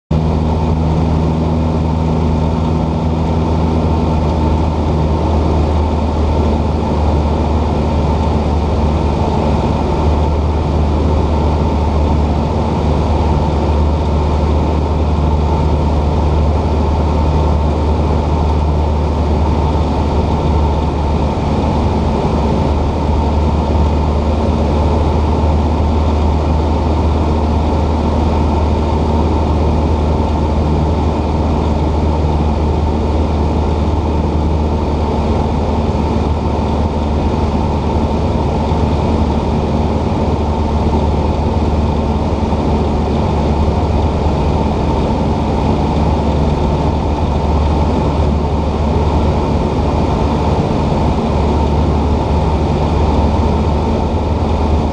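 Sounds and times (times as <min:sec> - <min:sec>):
propeller plane engine droning: 0:00.1 - 0:54.9.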